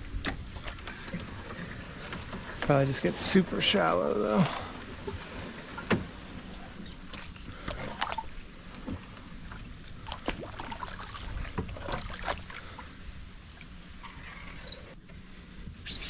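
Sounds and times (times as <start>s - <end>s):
low water noise: 0.0s - 16.0s
kayak paddle splashes: 0.4s - 14.5s.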